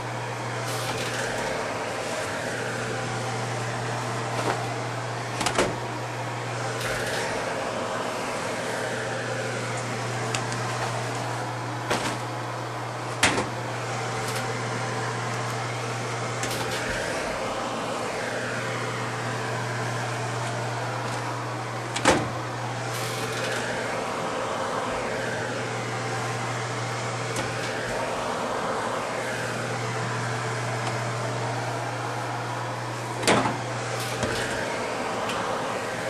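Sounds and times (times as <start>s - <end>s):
laundry machine humming and swishing: 0.0s - 36.0s.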